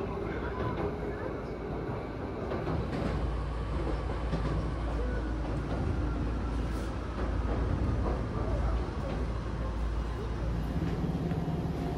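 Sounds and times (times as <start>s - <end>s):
train rumbling on rails: 0.0s - 11.9s.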